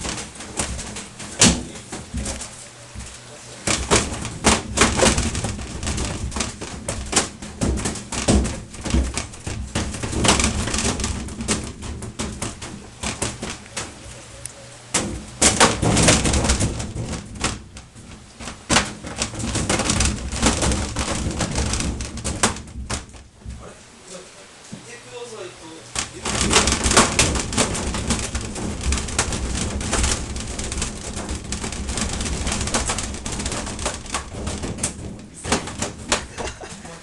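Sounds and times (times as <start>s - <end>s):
washing machine knocking and banging: 0.0s - 14.2s, 14.9s - 23.8s, 25.9s - 37.0s.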